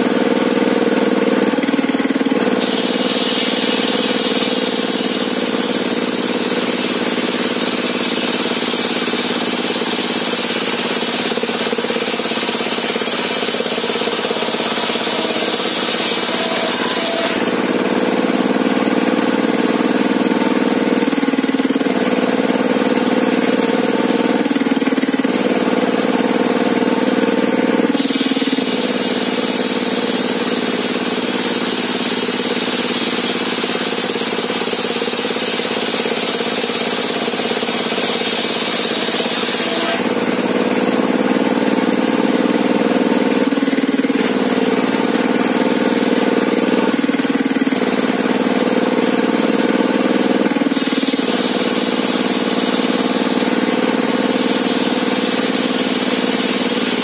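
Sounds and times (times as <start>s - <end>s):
table saw engine running: 0.0s - 57.0s.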